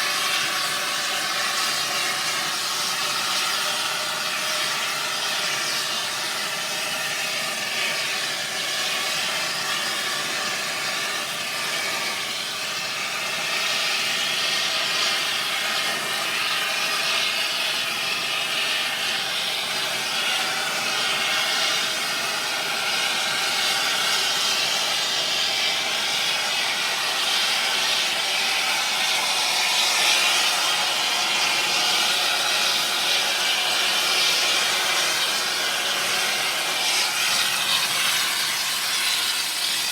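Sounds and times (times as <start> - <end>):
air torch hissing: 0.0 - 39.9.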